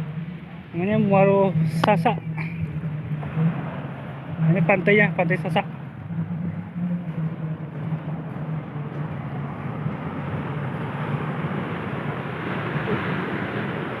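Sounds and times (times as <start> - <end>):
low steady hum: 0.0 - 14.0
ocean surf breaking on beach: 0.0 - 14.0.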